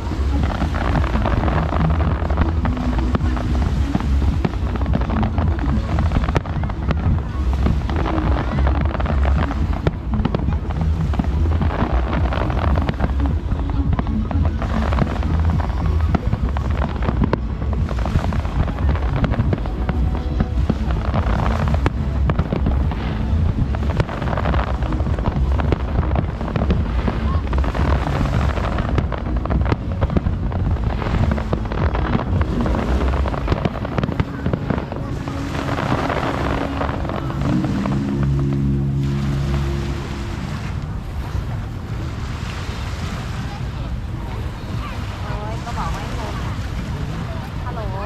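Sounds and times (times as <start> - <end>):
fireworks crackling and banging: 0.0 - 42.2, 43.2 - 48.0
heavy low rumble: 0.0 - 48.0.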